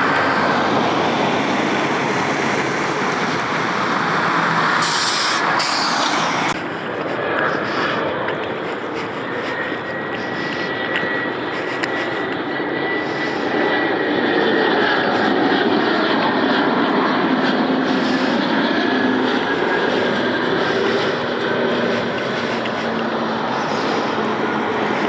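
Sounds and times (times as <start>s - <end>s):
airliner engines running: 0.0s - 25.0s.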